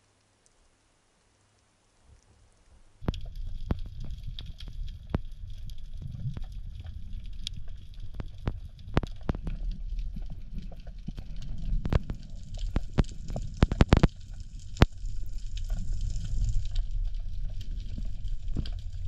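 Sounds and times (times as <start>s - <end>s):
underwater rumble of moving water: 2.4s - 19.0s
sharp underwater clicks: 3.0s - 19.0s.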